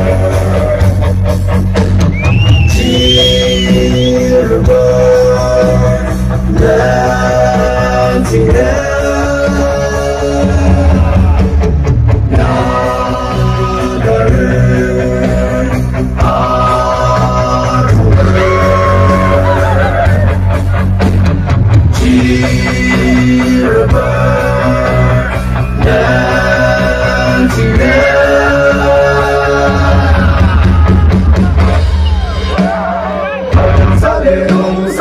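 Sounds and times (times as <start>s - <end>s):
live band with singer: 0.0s - 35.0s.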